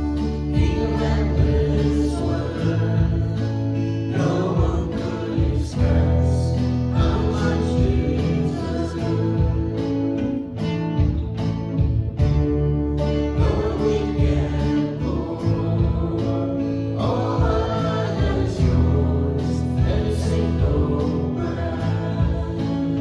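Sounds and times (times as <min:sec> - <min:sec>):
bass guitar: 0:00.0 - 0:23.0
strummed guitar: 0:00.0 - 0:23.0.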